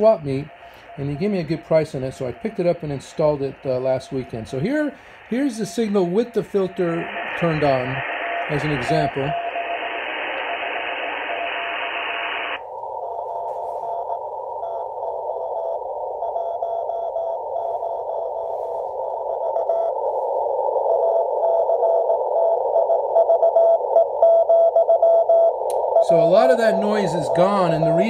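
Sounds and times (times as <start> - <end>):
radio hiss: 0.0 - 23.2, 25.0 - 28.0.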